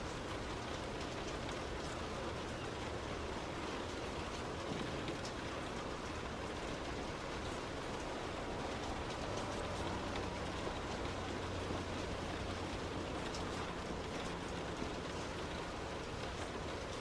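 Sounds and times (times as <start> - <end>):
heavy rain hitting a car: 0.0 - 17.0
tyres on wet road hum: 0.0 - 17.0.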